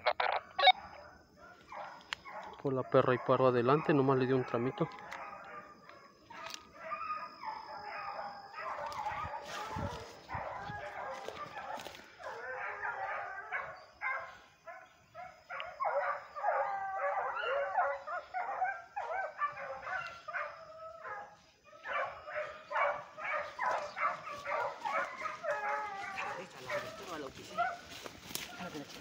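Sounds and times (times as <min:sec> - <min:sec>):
dogs barking and yelping: 0:00.0 - 0:29.0.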